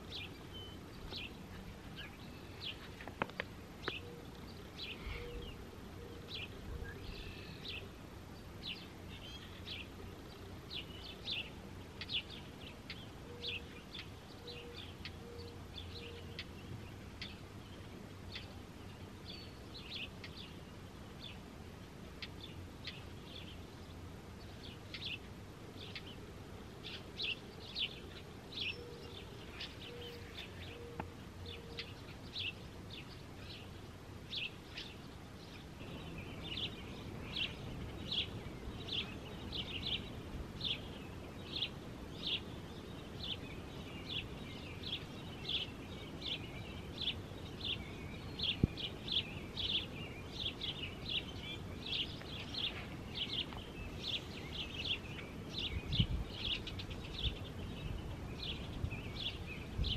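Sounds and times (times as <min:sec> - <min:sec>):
low background hiss: 0:00.0 - 0:59.9
small birds chirping: 0:00.0 - 0:59.9.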